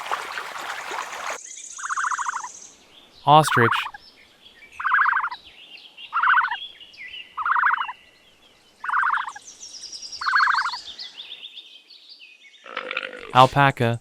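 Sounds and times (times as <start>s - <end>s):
small birds chirping: 0.8s - 13.3s.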